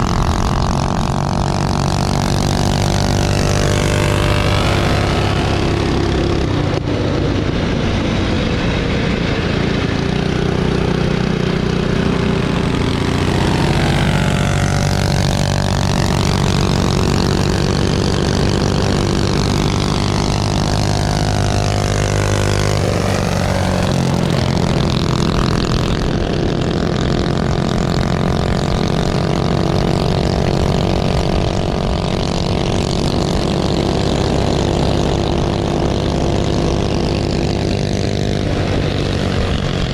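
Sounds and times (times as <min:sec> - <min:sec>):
minibike engines running hard: 0:00.0 - 0:39.9.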